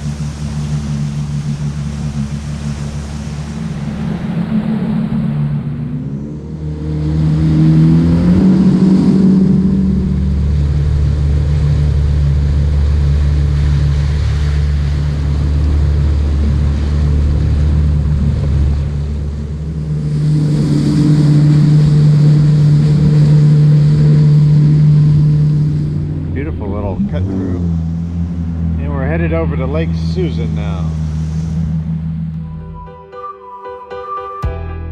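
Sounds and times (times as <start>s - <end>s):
personal watercraft engine: 0.0s - 32.9s.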